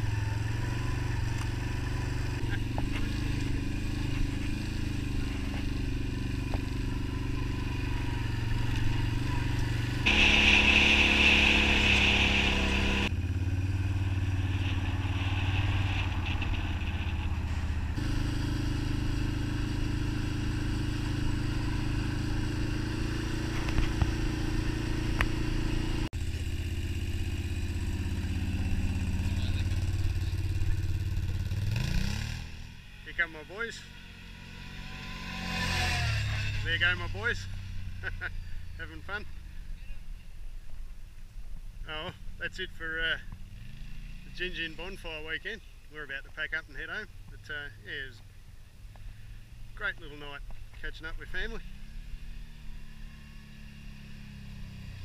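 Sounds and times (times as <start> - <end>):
quad bike engine running: 0.0 - 40.3, 41.9 - 55.0.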